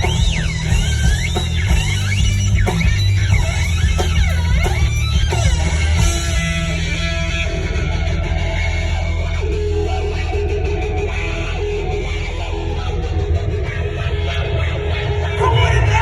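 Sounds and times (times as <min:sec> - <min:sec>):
electric guitar: 0:00.0 - 0:16.0
heavy bass: 0:00.0 - 0:16.0.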